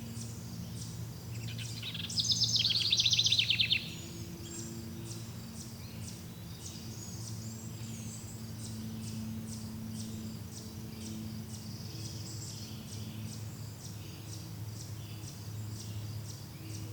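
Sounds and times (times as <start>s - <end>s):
birds chirping: 0.0s - 16.9s
low steady drone: 0.0s - 16.9s
regular cricket-like chirp: 0.0s - 16.9s.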